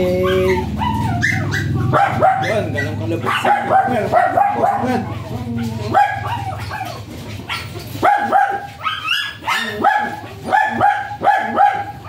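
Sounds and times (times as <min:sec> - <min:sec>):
small dog barking and yipping: 0:00.0 - 0:12.0.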